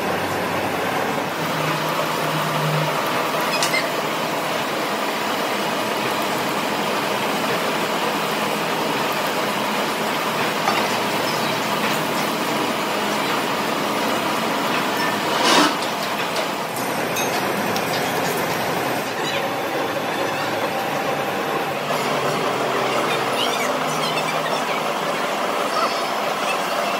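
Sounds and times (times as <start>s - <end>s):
machinery noise: 0.0s - 26.9s.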